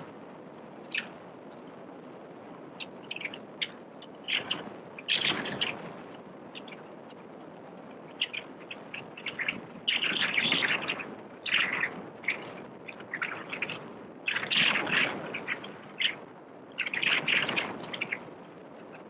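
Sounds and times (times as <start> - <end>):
steady background hiss: 0.0 - 19.0
birds chirping: 0.8 - 1.9, 2.8 - 7.4, 8.0 - 18.7.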